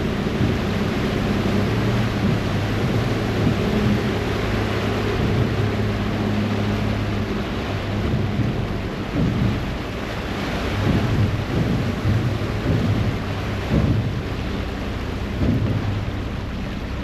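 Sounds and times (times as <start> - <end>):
boat engine hum: 0.0 - 17.0
water rushing and churning: 0.0 - 17.0.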